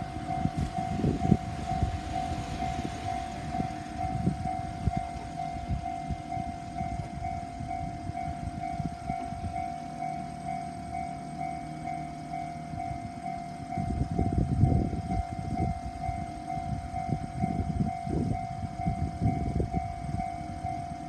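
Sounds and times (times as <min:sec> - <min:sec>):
level crossing warning bell: 0:00.0 - 0:21.0
train rumble and wheel clatter: 0:00.0 - 0:21.0.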